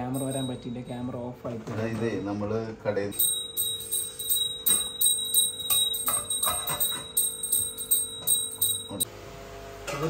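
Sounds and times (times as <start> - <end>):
bell-like ringing tones: 0.0 - 1.2, 2.0 - 9.1.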